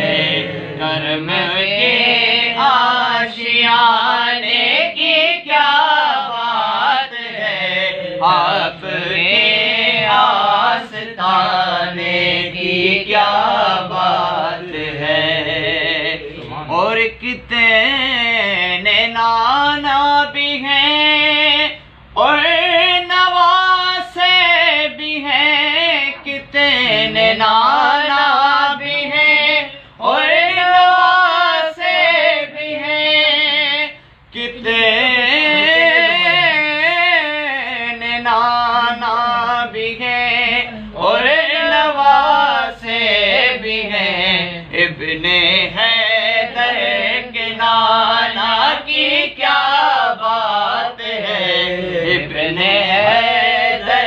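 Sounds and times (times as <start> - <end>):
man singing unaccompanied: 0.0 - 54.0.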